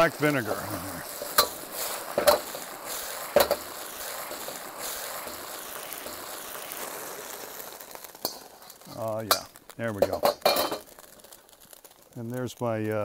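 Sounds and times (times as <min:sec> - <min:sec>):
sauce sizzling in a wok: 0:00.0 - 0:13.0.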